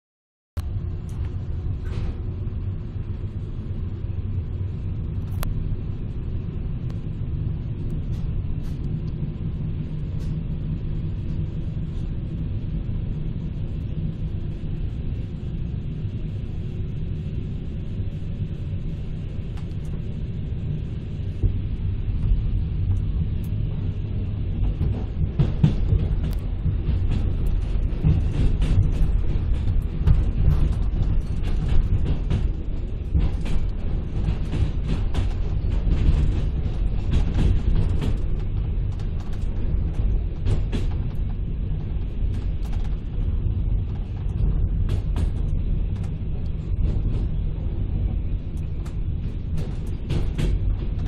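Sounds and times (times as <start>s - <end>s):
train carriage rumbling on track: 0.6s - 51.0s.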